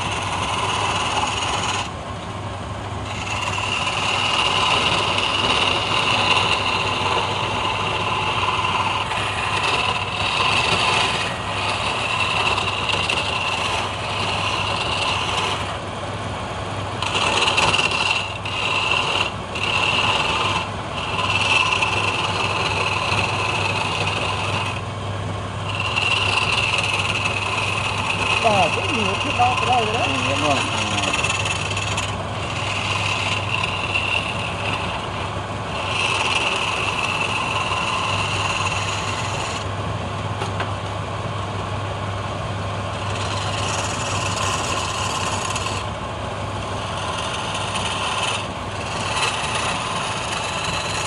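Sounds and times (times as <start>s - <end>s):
chisel cutting wood hiss: 0.0s - 1.9s, 3.0s - 15.8s, 17.0s - 24.8s, 25.7s - 35.2s, 35.8s - 39.7s, 43.0s - 45.9s, 46.7s - 51.0s
lathe motor humming: 0.0s - 51.0s.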